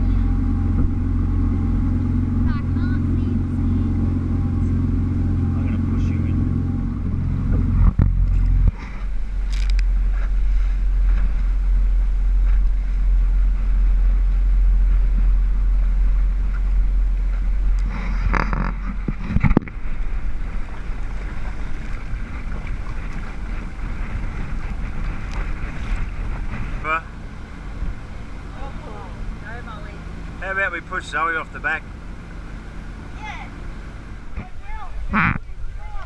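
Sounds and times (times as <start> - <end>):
wind buffeting microphone: 0.0 - 30.4, 31.9 - 36.0
boat running noise: 0.0 - 36.0
water: 0.0 - 36.0.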